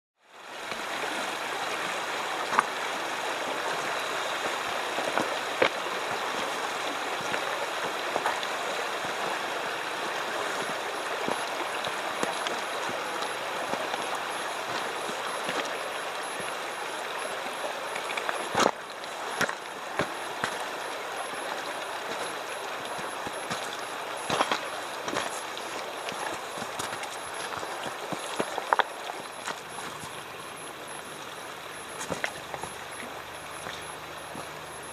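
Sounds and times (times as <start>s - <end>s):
creek flowing over stones: 0.2s - 34.9s.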